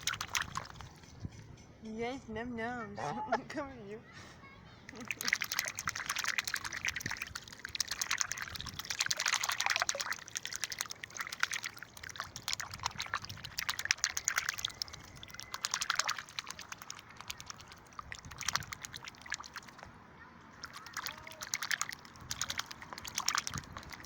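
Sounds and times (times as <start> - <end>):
goose bill snapping and slurping water: 0.0 - 1.0, 4.9 - 19.9, 20.5 - 24.0
water splashes: 0.0 - 1.0, 4.9 - 24.0.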